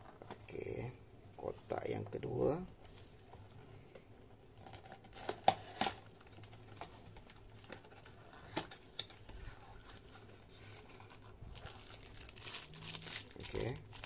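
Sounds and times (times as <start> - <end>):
faint plastic rustling: 0.0 - 14.0.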